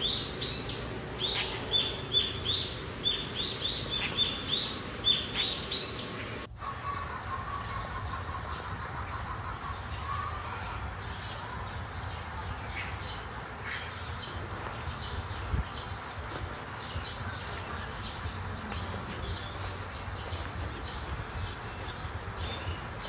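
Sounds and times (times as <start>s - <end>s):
birds chirping: 0.0s - 23.0s
steady low rumble: 0.0s - 23.0s.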